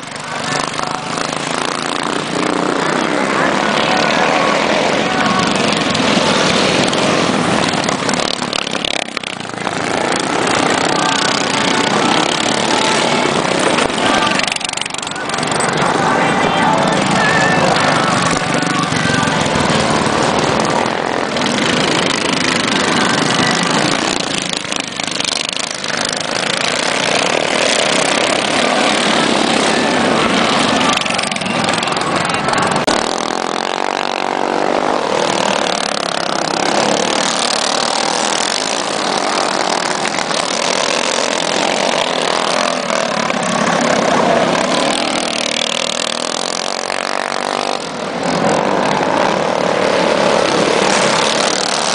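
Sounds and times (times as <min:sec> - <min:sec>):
go-kart engines revving: 0:00.0 - 0:51.9.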